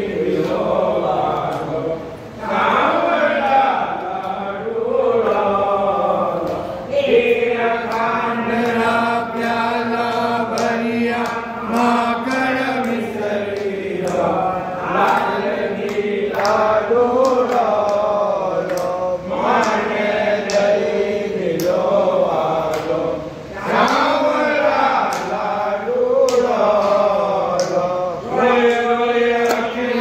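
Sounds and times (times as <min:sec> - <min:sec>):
group chanting in unison: 0:00.0 - 0:30.0.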